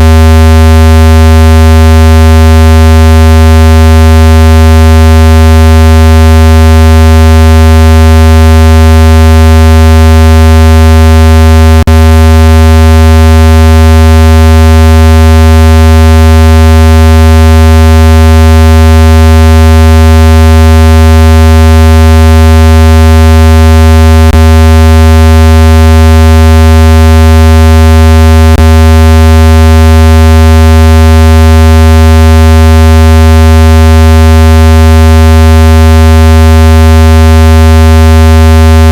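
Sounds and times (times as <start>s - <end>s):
low buzzing electronic tone: 0.0s - 38.9s.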